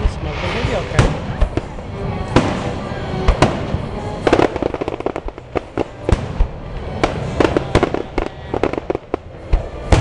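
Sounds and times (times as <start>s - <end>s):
fireworks booming: 0.0s - 10.0s
fireworks crackling: 0.0s - 10.0s.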